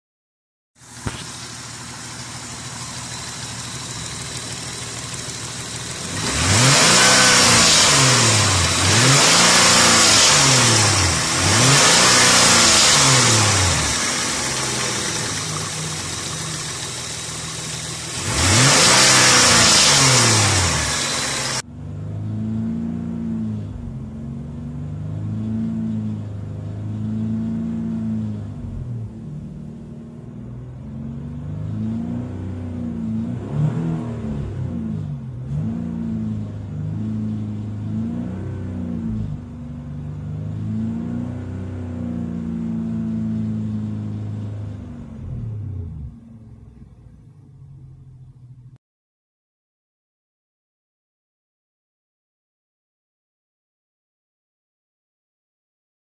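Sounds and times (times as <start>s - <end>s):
car engine idling and revving: 0.8s - 48.8s.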